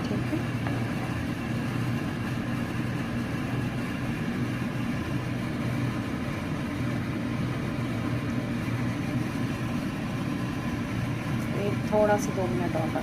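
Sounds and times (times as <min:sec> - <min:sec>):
pot of rice boiling: 0:00.0 - 0:13.0.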